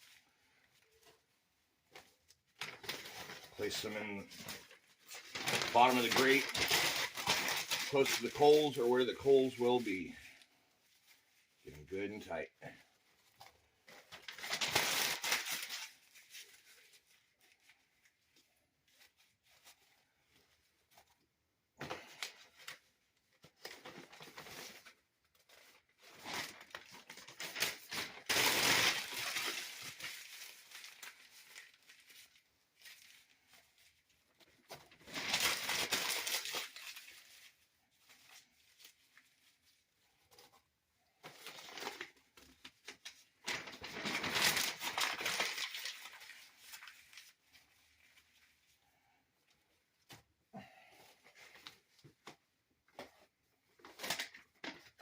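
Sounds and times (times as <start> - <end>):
newspaper being crumpled: 0.0 - 21.1, 21.9 - 55.0.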